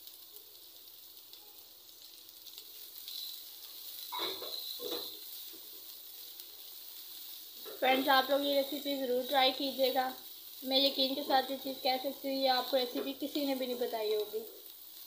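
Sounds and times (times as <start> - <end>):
onions sizzling in oil: 0.0 - 15.0
spatula stirring strokes: 2.0 - 15.0.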